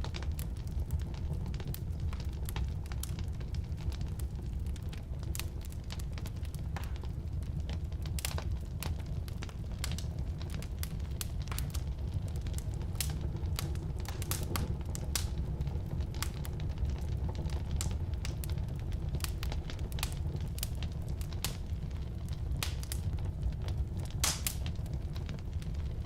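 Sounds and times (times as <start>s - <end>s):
firewood crackling and popping: 0.0s - 26.0s
low rumble of flames: 0.0s - 26.0s.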